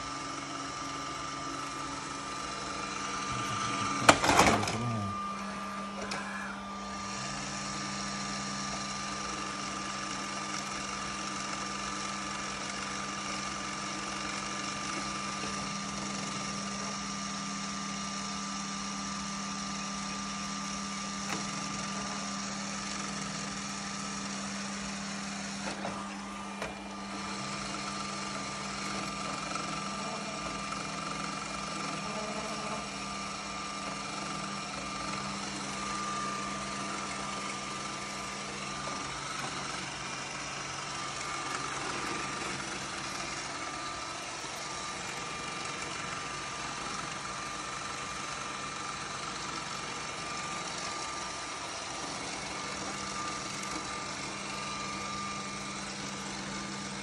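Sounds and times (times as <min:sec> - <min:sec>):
robot vacuum motor hum: 0:00.0 - 0:57.0.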